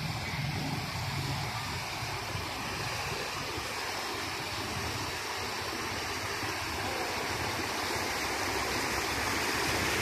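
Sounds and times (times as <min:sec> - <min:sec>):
flood water rushing and splashing: 0:00.0 - 0:10.0.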